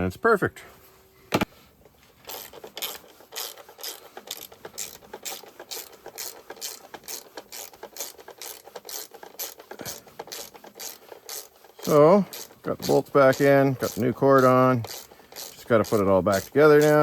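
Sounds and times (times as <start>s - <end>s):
socket ratchet wrench clicking: 2.2s - 17.0s.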